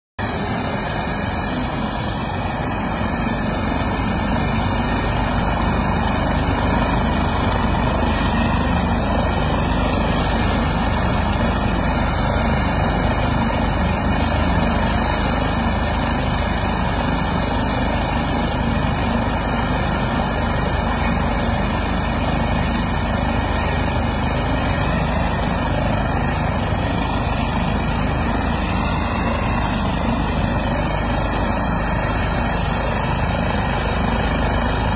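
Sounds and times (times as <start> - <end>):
helicopter turbine and rotor: 0.2 - 34.9.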